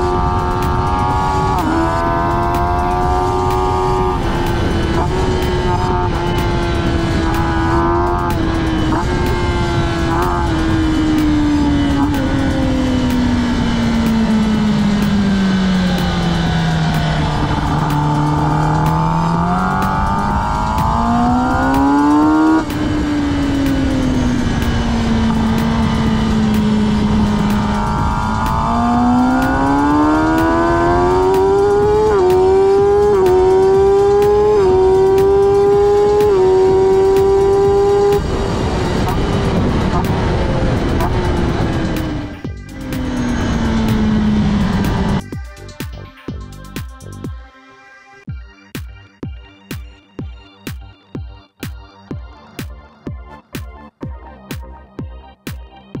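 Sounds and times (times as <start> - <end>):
racing motorcycle engine: 0.0 - 47.4.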